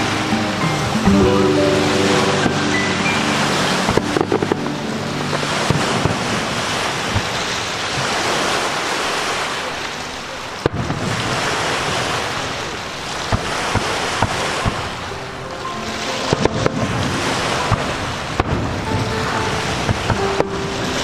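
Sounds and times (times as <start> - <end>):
fireworks hissing rush: 1.0 - 21.0
fireworks bangs: 1.1 - 8.9, 10.6 - 15.2, 16.2 - 21.0.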